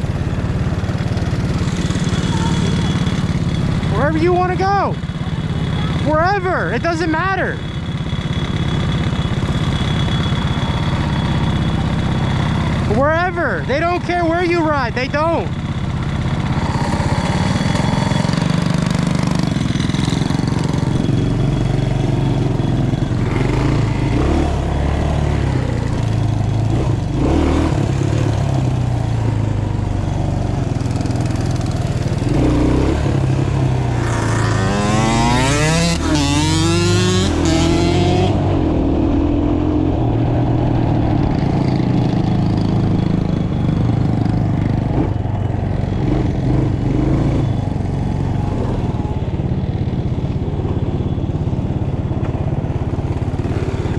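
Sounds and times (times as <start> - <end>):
mini bike engine revving: 0.0 - 53.9
mini bike engines running: 0.0 - 53.9.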